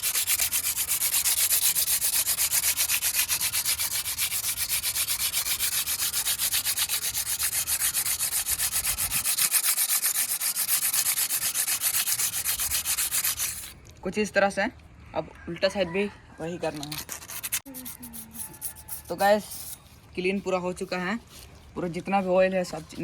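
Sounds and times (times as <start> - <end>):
sandpaper rubbing on metal: 0.0 - 13.8, 16.7 - 23.0.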